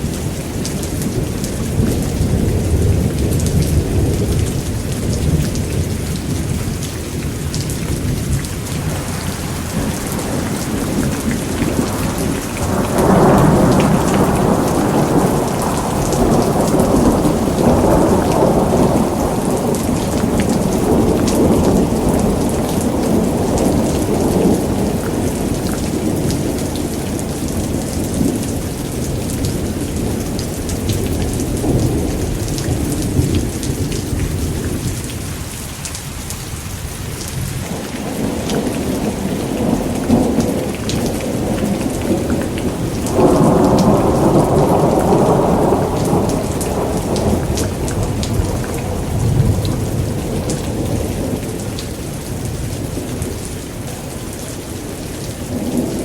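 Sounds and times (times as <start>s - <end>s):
rolling thunder: 0.0s - 35.4s, 37.2s - 56.0s
heavy rain: 0.0s - 56.0s.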